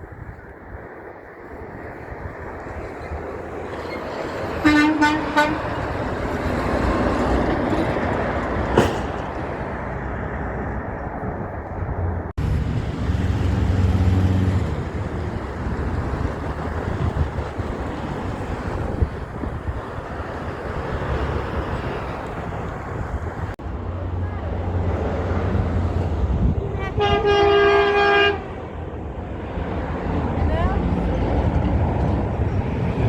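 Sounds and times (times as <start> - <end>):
tyre and traffic noise: 0.1 - 33.0
heavy truck engine rumble: 2.3 - 33.0.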